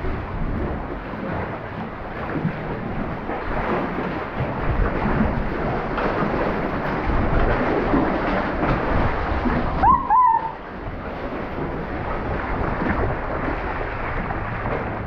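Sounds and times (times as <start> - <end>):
deep rumble: 0.0 - 15.0
sea water sloshing in tunnel: 0.0 - 15.0.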